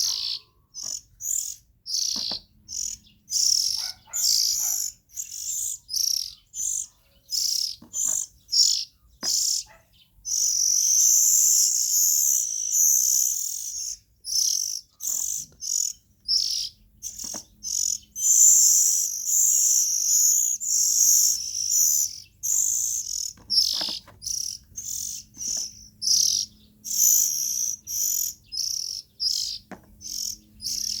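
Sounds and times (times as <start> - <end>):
bird singing: 0.0 - 31.0.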